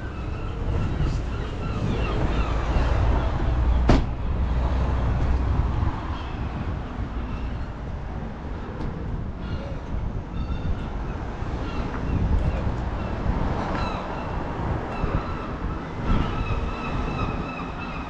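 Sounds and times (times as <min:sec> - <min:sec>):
street noise low rumble: 0:00.0 - 0:18.0.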